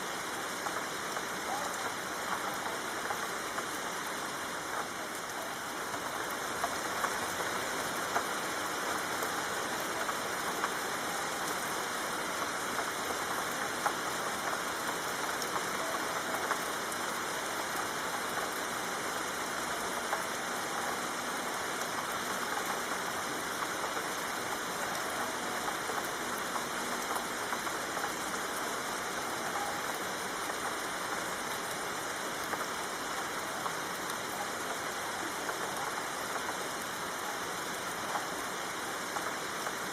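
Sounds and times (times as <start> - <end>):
rain falling: 0.0 - 39.9
raindrop ticks: 0.0 - 39.9.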